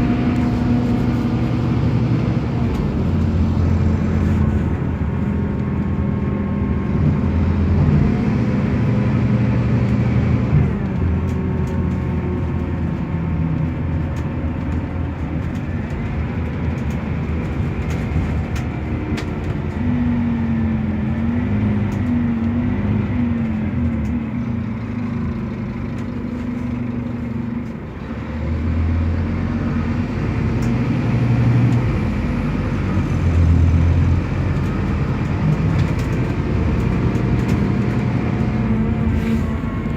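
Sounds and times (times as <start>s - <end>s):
bus diesel engine driving: 0.0s - 39.9s.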